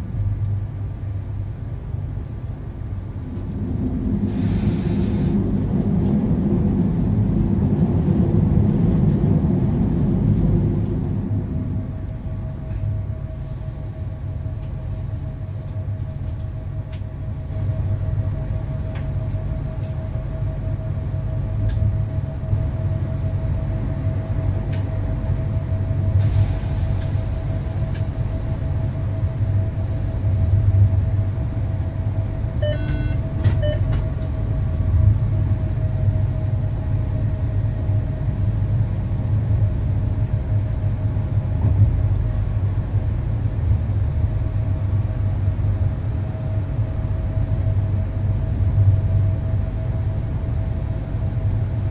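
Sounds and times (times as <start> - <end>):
electric train rumble and whine: 0.0 - 51.9.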